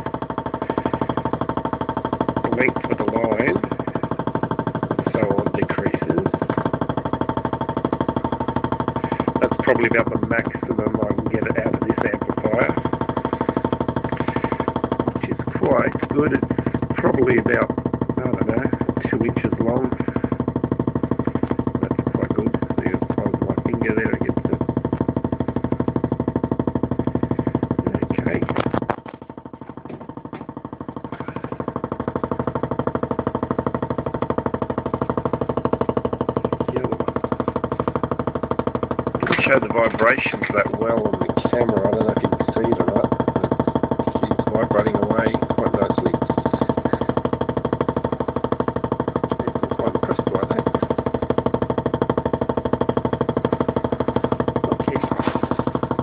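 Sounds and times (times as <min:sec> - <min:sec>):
hard drive actuator buzzing: 0:00.0 - 0:56.0.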